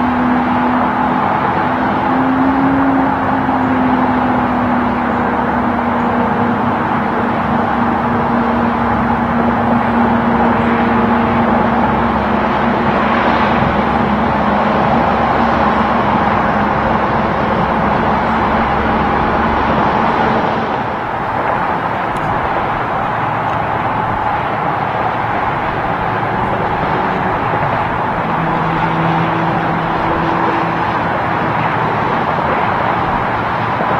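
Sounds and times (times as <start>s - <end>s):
highway traffic rush: 0.0s - 33.9s
truck engine hum: 0.0s - 33.9s.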